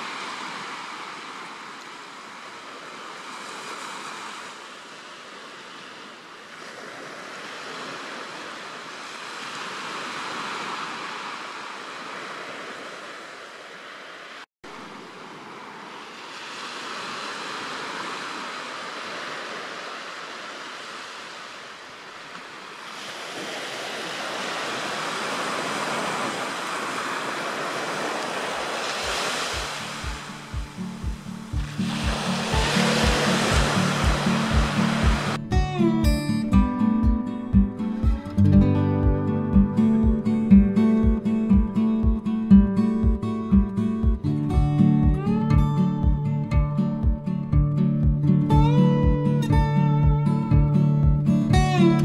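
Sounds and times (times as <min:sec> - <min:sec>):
sea surf breaking on beach: 0:00.0 - 0:46.3.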